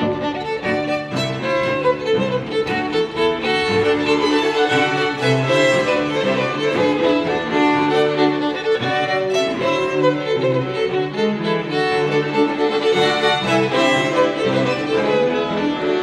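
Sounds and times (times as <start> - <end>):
held low cello notes: 0.0 - 16.0
violin bowed melody: 0.0 - 16.0.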